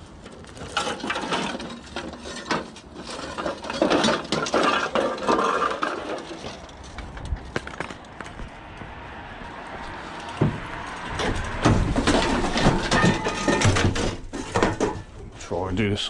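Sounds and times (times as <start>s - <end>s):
scrap metal clanking: 0.2s - 8.0s, 10.1s - 15.5s.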